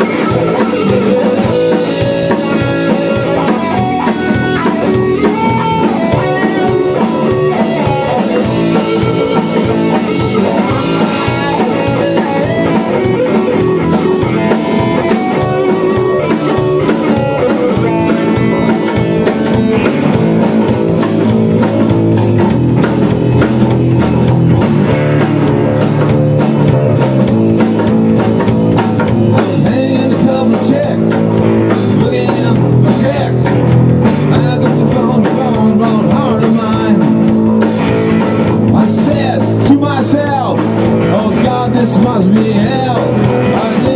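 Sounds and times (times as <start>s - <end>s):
drum kit steady beat: 0.0s - 43.9s
electric guitar: 0.0s - 43.9s
lap steel guitar: 0.0s - 43.9s.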